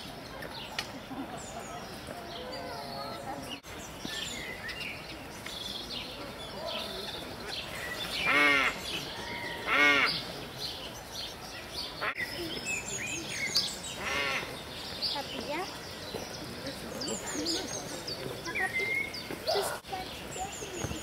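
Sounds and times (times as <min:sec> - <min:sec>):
birds chirping and tweeting: 0:00.0 - 0:21.0.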